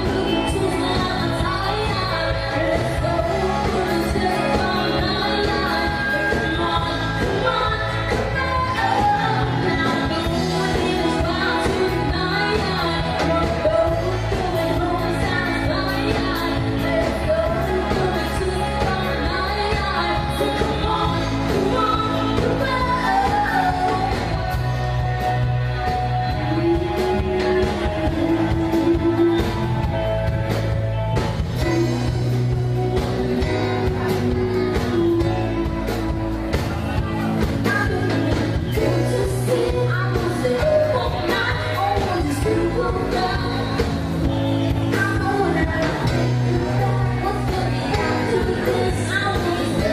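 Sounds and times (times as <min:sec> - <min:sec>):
live pop-rock band: 0:00.0 - 0:49.9
woman singing lead: 0:00.0 - 0:49.9.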